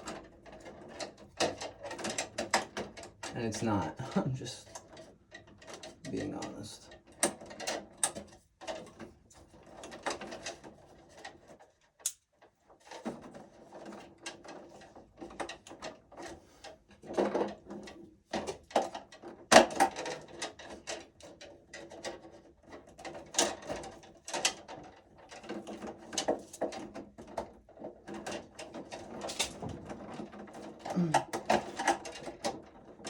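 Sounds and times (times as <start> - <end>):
hands working wires in metal panel: 4.6 - 33.0.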